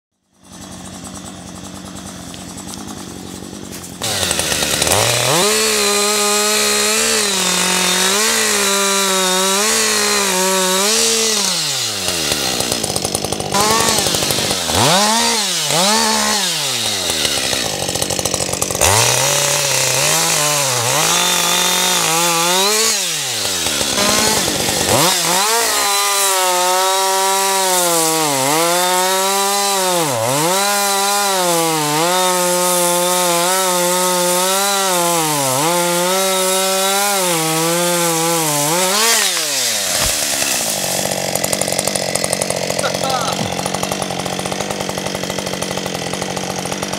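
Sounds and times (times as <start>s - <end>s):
chainsaw cutting wood: 0.2s - 46.9s.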